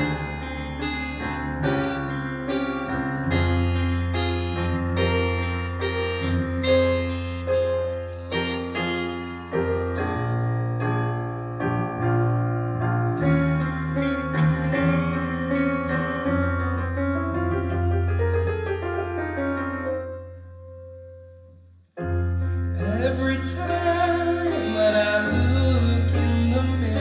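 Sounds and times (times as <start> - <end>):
low bass notes: 0.0 - 18.5, 22.1 - 27.0
grand piano chords: 0.0 - 27.0.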